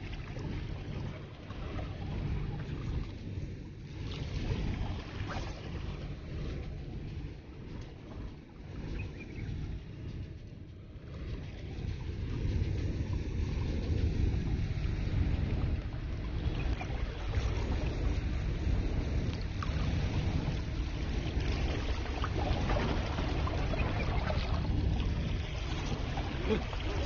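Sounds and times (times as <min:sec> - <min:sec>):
sea water washing: 0:00.0 - 0:09.9, 0:10.9 - 0:27.0
wind rumbling on microphone: 0:00.0 - 0:27.0.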